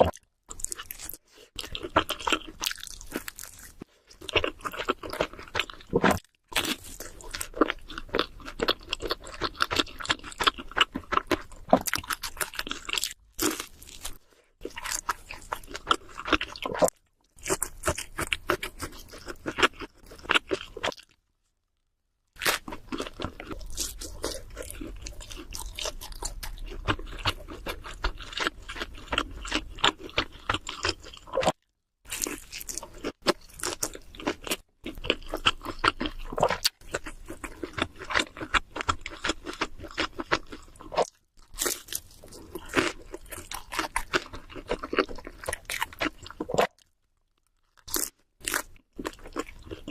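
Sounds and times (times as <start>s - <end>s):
chewing and crunching pizza: 0.0s - 21.3s, 22.4s - 49.9s.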